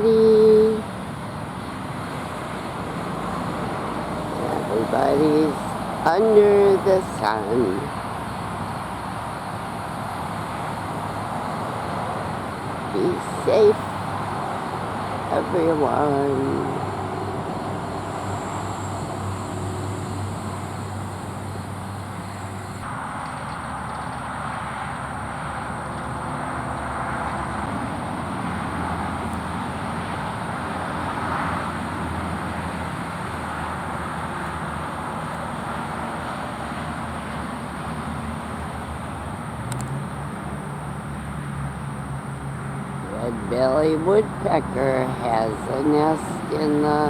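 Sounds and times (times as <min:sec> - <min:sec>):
road traffic passing: 0:00.0 - 0:47.0.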